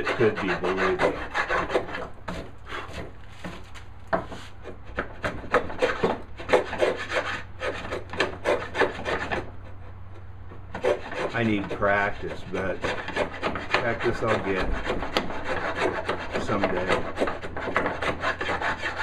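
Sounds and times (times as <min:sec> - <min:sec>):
router plane scraping wood: 0:00.0 - 0:10.0, 0:10.6 - 0:19.0.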